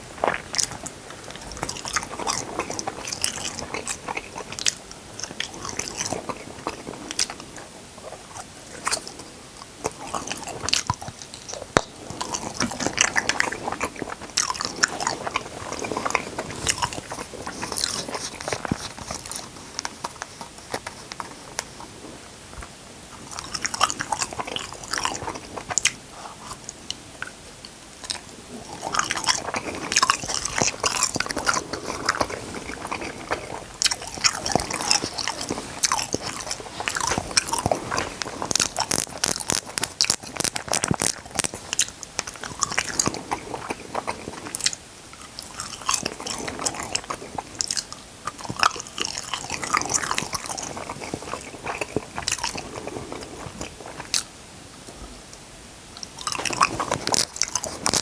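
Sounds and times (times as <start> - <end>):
wet mouth sounds: 0.0 - 7.5, 9.9 - 22.0, 23.2 - 27.4, 28.0 - 54.4, 56.0 - 58.0
crunchy chewing: 0.0 - 55.4, 56.0 - 58.0.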